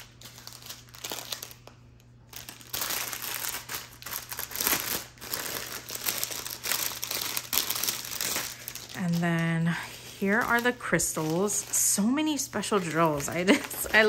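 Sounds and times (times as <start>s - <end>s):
plastic bags crinkling: 0.0s - 14.0s.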